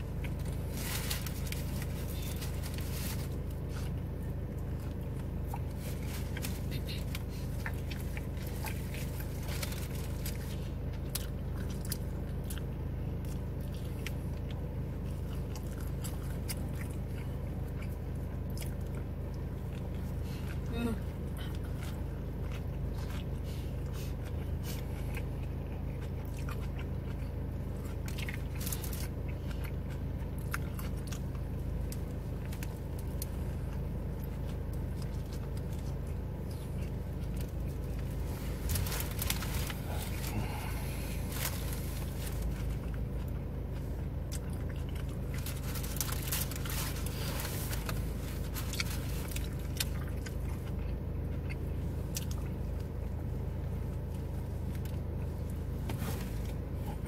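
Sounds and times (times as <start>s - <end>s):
man chewing crunchy food: 0.0s - 57.0s
steady low hum: 0.0s - 57.0s.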